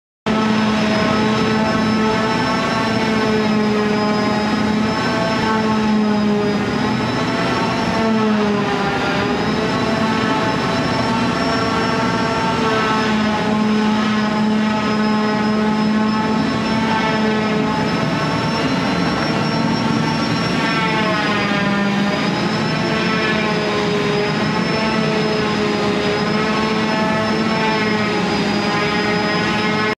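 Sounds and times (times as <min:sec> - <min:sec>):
power tool motor whine: 0:00.3 - 0:29.9.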